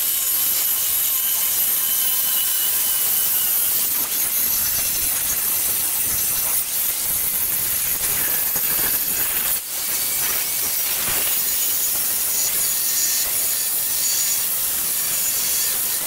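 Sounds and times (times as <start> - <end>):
angle grinder cutting steel: 0.0 - 16.0.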